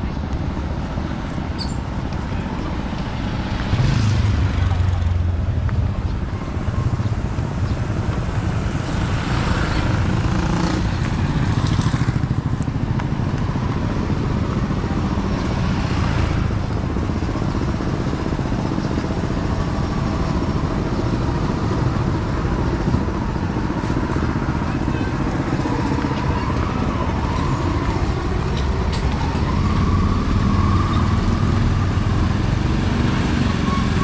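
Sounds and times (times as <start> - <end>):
motorbike engines passing: 0.0 - 34.0.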